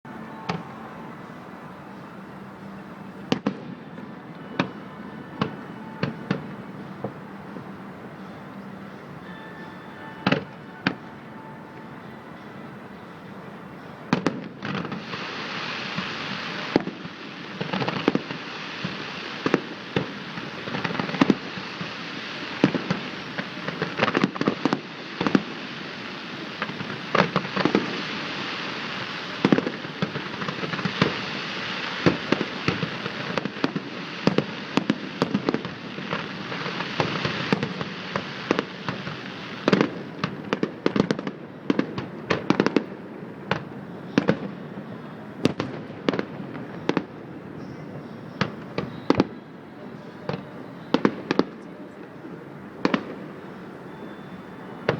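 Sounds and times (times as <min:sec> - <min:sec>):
fireworks bangs and crackles: 0:00.1 - 0:12.2, 0:13.0 - 0:54.9
rumble-hiss of fireworks bursts: 0:00.1 - 0:54.9.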